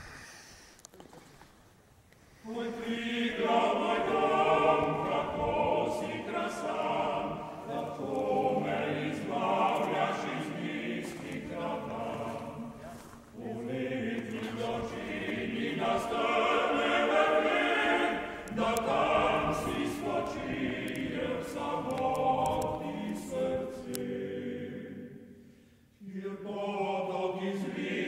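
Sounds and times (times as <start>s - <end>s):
choir singing in harmony: 2.4s - 28.0s.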